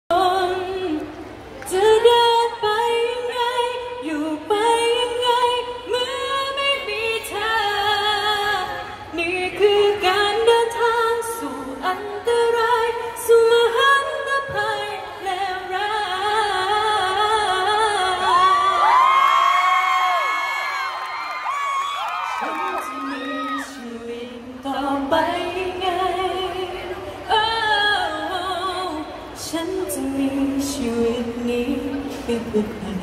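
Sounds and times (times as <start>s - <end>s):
woman singing into microphone: 0.1s - 20.2s, 22.2s - 33.0s.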